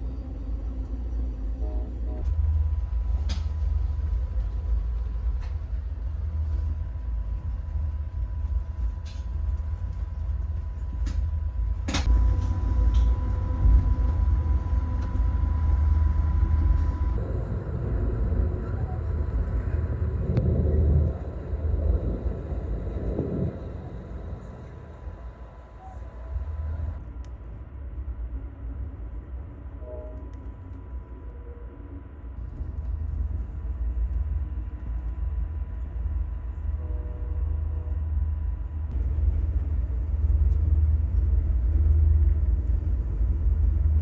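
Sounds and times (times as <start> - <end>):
train rumbling along tracks: 0.0 - 44.0.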